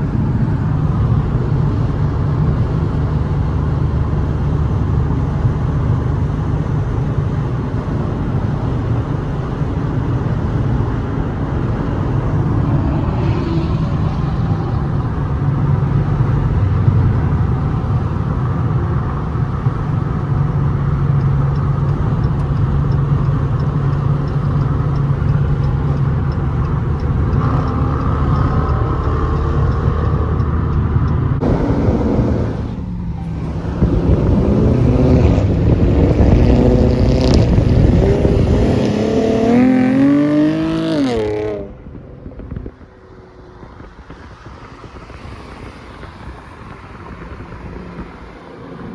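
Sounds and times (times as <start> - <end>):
car exhaust rumble: 0.0 - 48.9.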